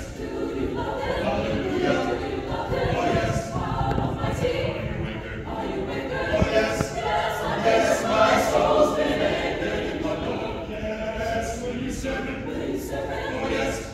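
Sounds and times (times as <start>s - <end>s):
mixed choir singing: 0.0s - 13.9s.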